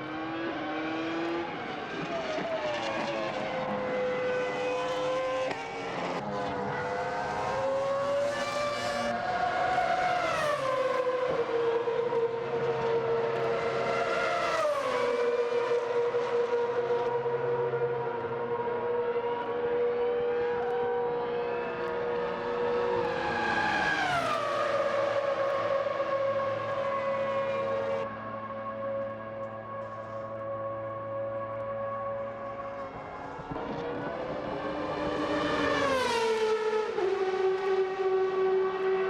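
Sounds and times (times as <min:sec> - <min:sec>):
racing car engine at high revs: 0:00.0 - 0:39.0.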